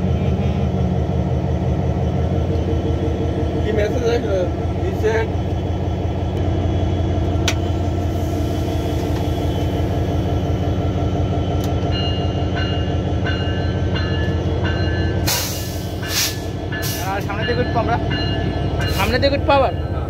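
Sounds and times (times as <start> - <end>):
locomotive engine drone: 0.0 - 20.0.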